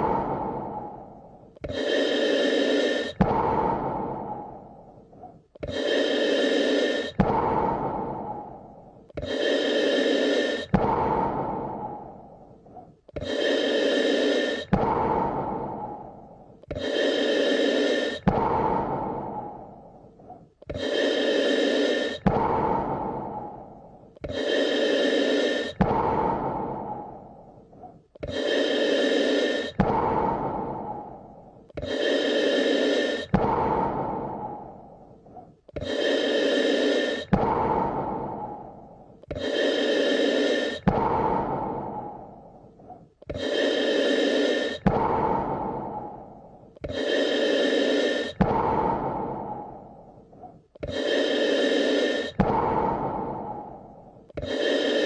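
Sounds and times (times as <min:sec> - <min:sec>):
person breathing deeply: 0:00.0 - 0:55.0.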